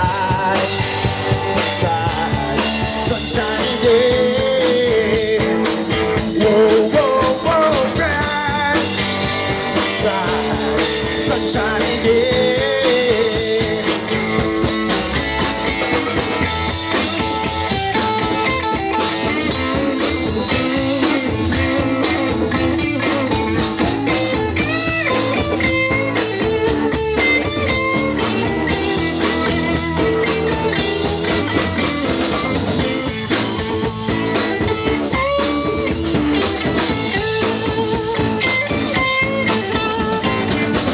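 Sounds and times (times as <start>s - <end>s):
bass guitar: 0.0s - 40.9s
drum kit: 0.0s - 40.9s
electric guitar lead lines: 0.0s - 40.9s.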